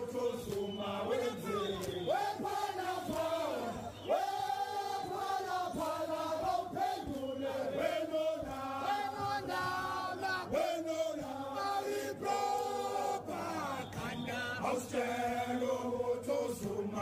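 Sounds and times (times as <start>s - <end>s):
crowd singing in chorus: 0.0s - 17.0s.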